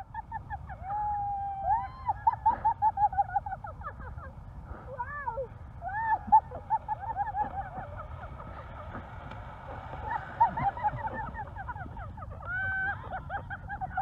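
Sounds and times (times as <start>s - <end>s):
high-pitched laughter: 0.0s - 4.4s, 5.8s - 14.0s
wind rumbling on microphone: 0.0s - 14.0s.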